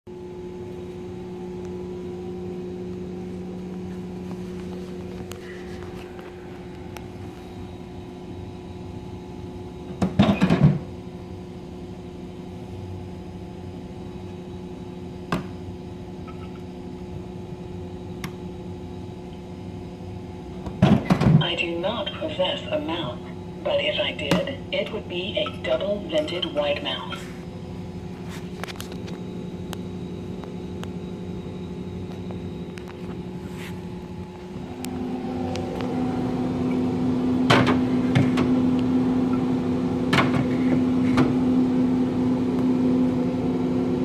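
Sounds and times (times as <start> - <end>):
refrigerator humming: 0.1 - 44.0.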